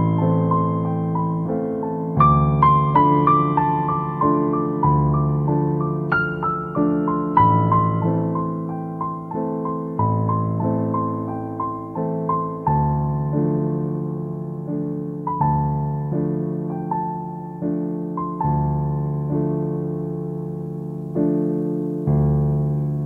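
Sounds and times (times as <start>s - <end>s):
gentle solo piano: 0.0s - 23.0s.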